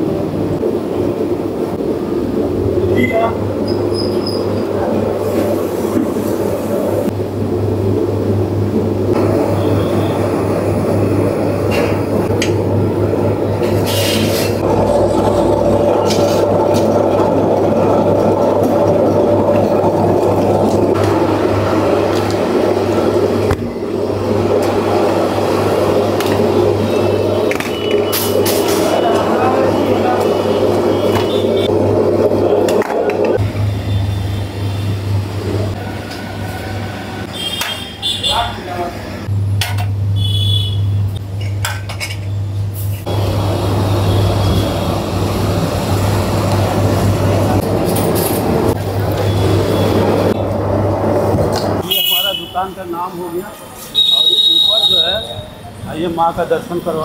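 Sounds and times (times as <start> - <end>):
gas burner rushing hum: 0.0 - 57.0
street noise: 0.0 - 57.0.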